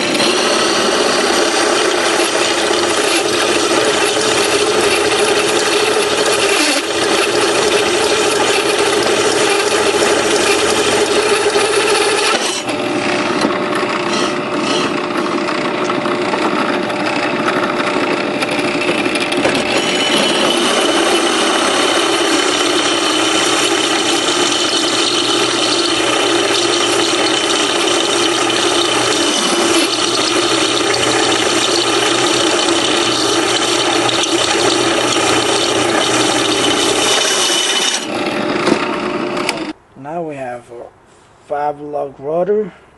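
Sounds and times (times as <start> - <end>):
electric drill grinding through metal: 0.0 - 39.8.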